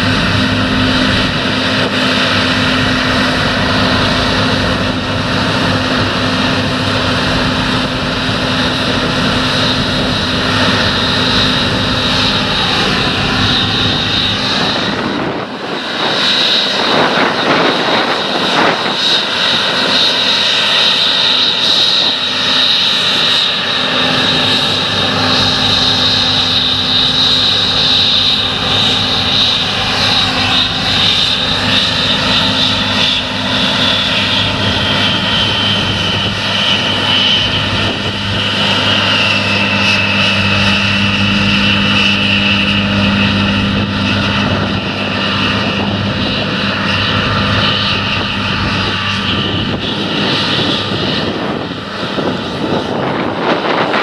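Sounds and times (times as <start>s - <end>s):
combine harvester engine drone: 0.0s - 54.0s
high machinery whine: 0.0s - 54.0s.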